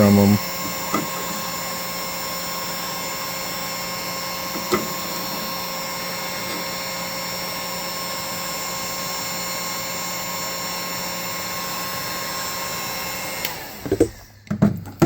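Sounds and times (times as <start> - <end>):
heat gun fan whirring: 0.0 - 14.6.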